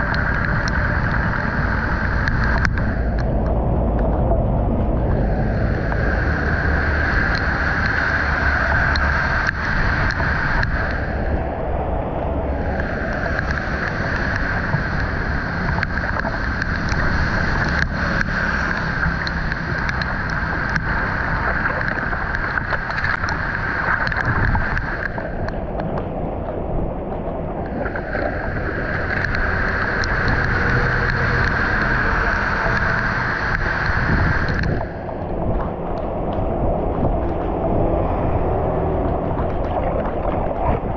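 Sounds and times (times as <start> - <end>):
floodwater rushing into drain: 0.0 - 25.5, 27.5 - 40.9
wind rumble on microphone: 0.0 - 40.9.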